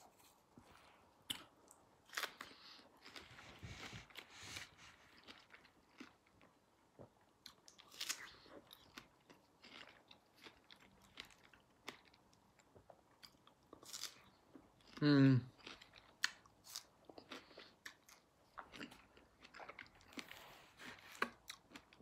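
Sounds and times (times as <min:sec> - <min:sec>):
person chewing strawberries: 0:00.7 - 0:22.0.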